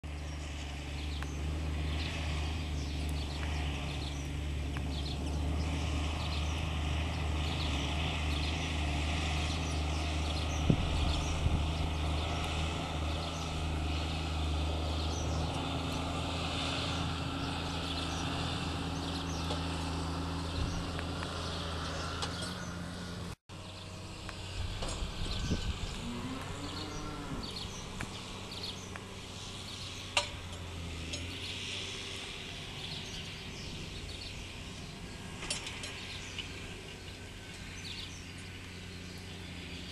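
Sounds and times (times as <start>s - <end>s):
birds calling: 0.0s - 39.9s
tractor engine running: 0.0s - 39.9s.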